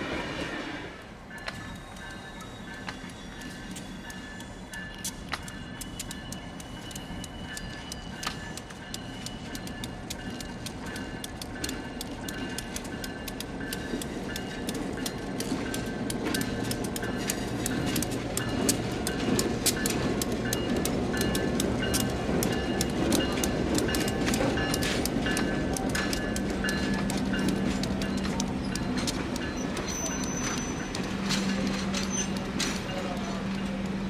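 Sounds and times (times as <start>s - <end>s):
diesel train engine rumble: 0.0s - 34.0s
wheels clicking over rail joints: 1.3s - 34.0s.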